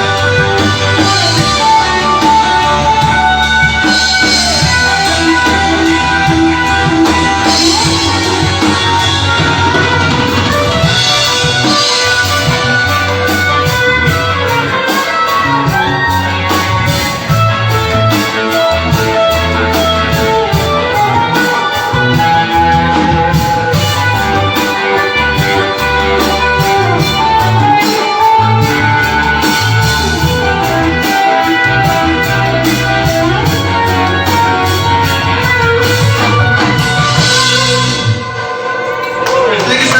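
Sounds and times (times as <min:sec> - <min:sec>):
overdriven electric guitar: 0:00.0 - 0:39.9
rhythmic backing track: 0:00.0 - 0:39.9.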